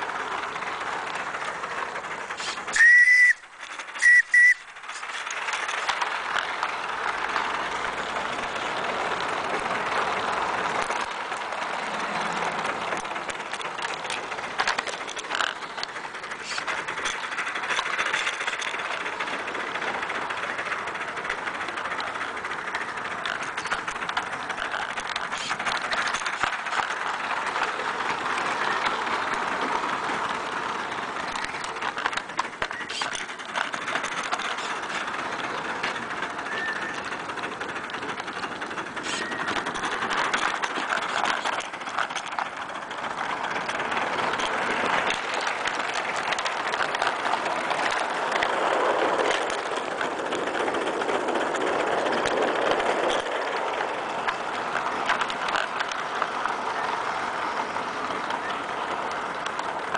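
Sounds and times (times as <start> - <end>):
steady steam hiss: 0.0 - 52.6
running gear clicks and rattles: 0.0 - 59.9.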